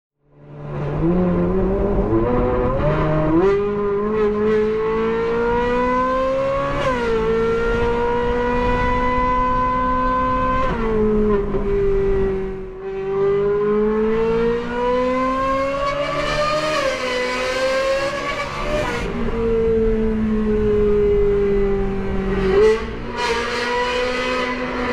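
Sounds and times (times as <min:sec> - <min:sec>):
car engine accelerating: 0:00.7 - 0:24.9.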